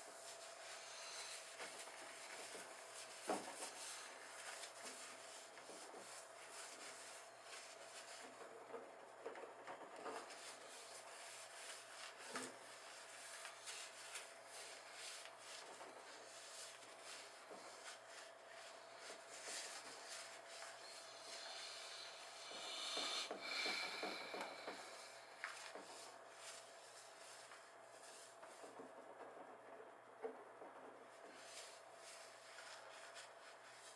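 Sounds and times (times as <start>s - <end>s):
tissue rubbing a fridge top: 0.0s - 29.3s, 31.1s - 33.9s
faint steady hum: 0.0s - 33.9s.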